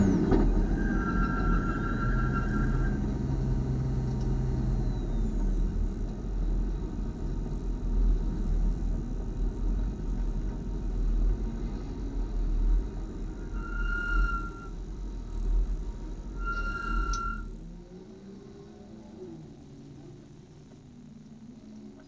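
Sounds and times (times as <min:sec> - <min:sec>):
race car engine low rumble: 0:00.0 - 0:22.0.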